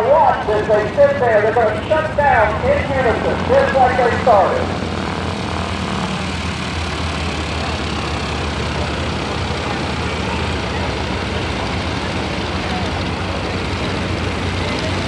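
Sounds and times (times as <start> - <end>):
propeller plane engines idling: 0.0 - 15.0.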